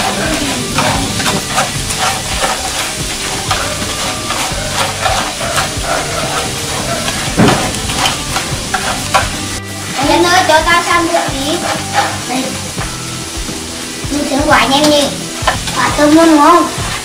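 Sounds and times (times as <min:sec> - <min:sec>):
crabs sizzling in a frying pan: 0:00.0 - 0:17.0.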